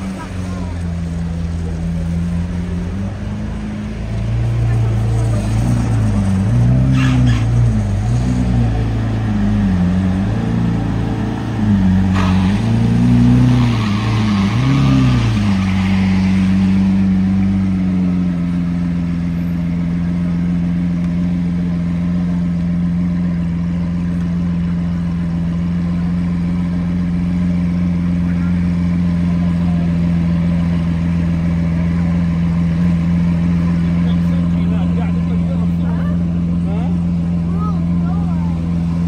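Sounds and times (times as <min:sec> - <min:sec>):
car engine revving and idling: 0:00.0 - 0:39.0.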